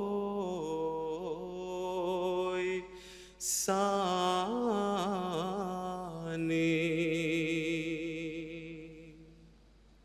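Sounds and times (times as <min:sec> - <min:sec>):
man chanting melodically: 0:00.0 - 0:09.4.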